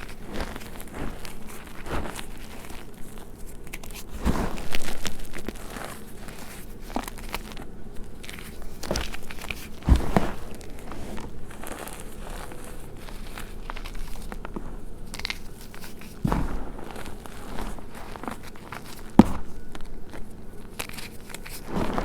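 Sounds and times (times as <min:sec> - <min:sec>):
chalk crushed crackling and crunching: 0:00.0 - 0:22.0.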